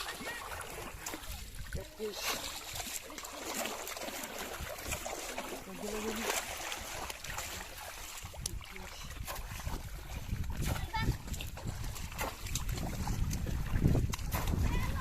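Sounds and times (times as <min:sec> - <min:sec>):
river water splashing: 0:00.0 - 0:15.0
small splashes: 0:00.0 - 0:15.0.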